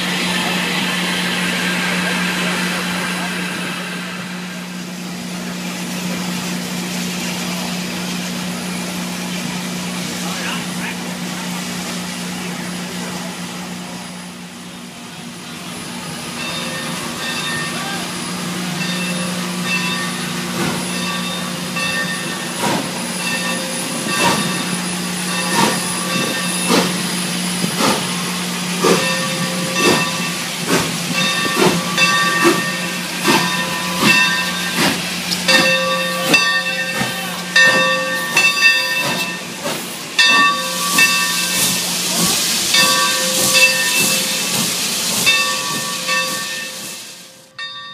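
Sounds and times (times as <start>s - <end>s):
steam hissing: 0.0s - 47.6s
steam locomotive exhaust beats: 0.0s - 47.9s.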